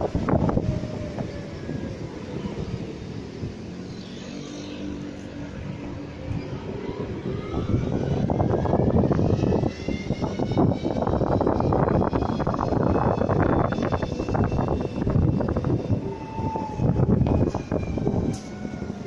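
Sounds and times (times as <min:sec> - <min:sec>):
wind buffeting microphone: 0:00.0 - 0:04.0, 0:04.9 - 0:19.0
motorbike engine whine: 0:00.0 - 0:19.0.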